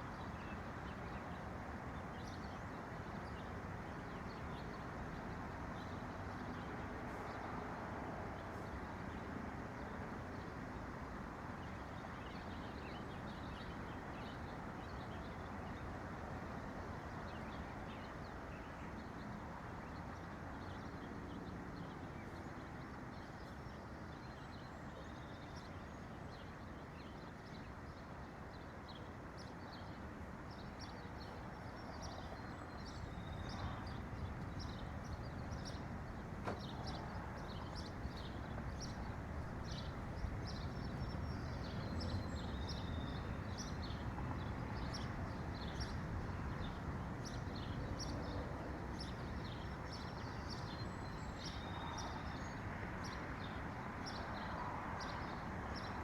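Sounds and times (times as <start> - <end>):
songbirds chirping: 8.4 - 56.0.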